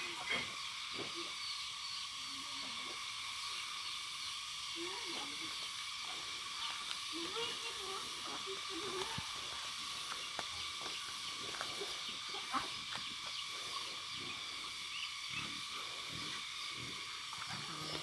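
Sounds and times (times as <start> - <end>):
birds pecking and dabbling: 0.0 - 18.0
steady high hiss: 0.0 - 18.0.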